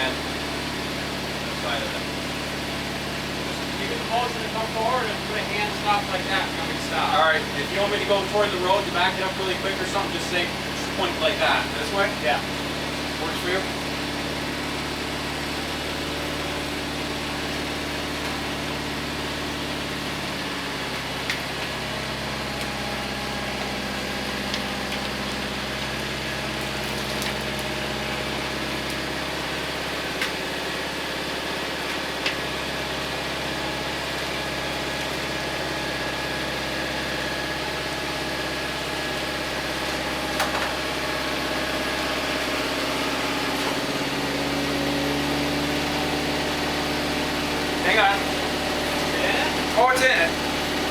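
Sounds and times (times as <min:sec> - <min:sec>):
vehicle engine idling: 0:00.0 - 0:50.9.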